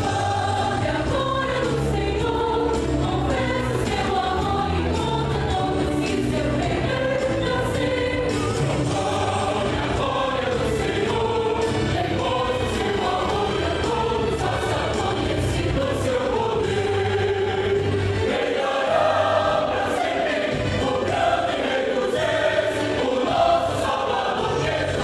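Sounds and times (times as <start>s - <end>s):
choir singing gospel: 0.0s - 25.0s.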